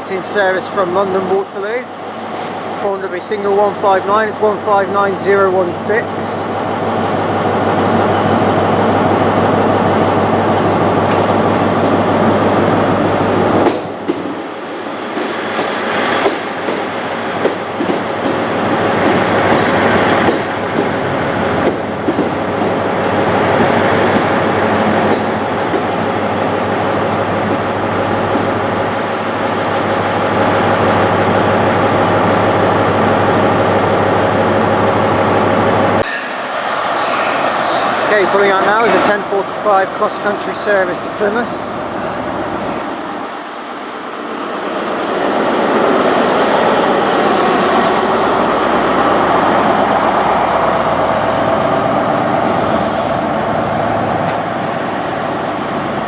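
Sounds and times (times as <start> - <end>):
train pulling in: 0.0 - 56.0.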